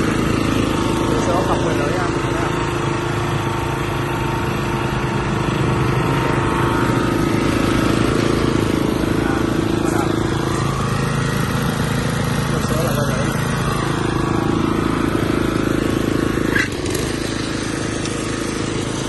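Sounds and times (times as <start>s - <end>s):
small petrol engine running: 0.0s - 19.0s.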